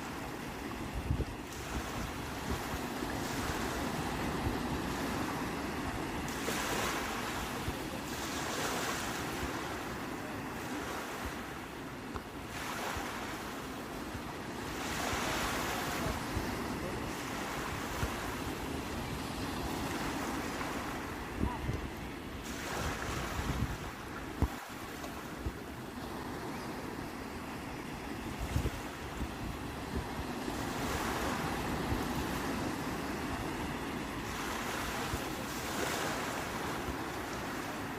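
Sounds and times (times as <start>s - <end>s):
sea waves breaking: 0.0s - 37.9s.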